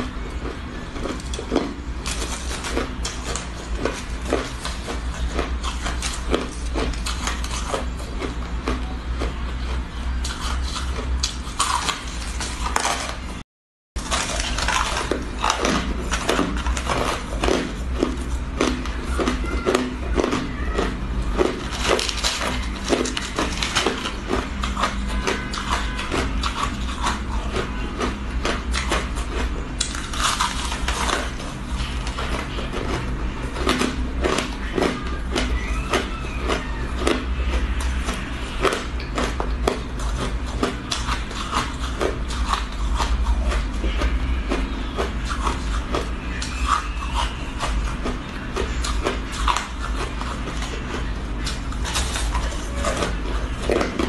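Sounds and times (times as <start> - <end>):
ice crunching being chewed: 0.0 - 13.2, 14.0 - 54.0
low steady hum: 0.0 - 13.4, 14.0 - 54.0.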